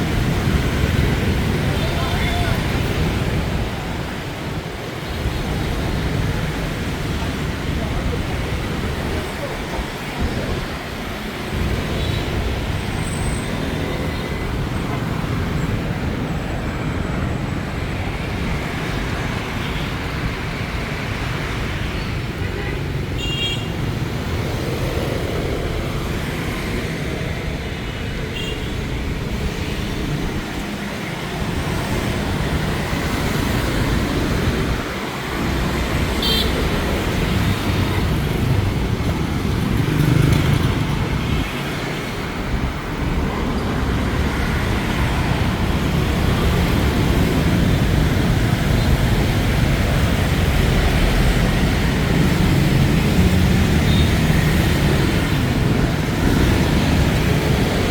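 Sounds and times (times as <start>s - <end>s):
motorbike traffic rumble: 0.0s - 57.9s.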